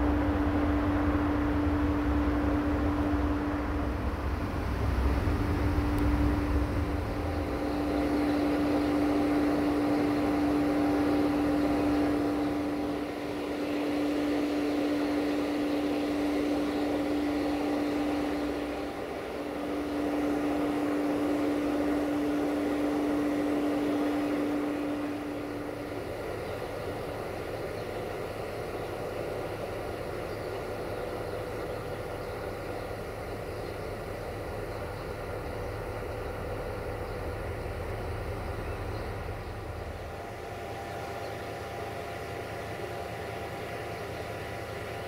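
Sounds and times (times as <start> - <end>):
diesel locomotive idling drone: 0.0 - 45.0
steady humming tone: 0.0 - 45.0.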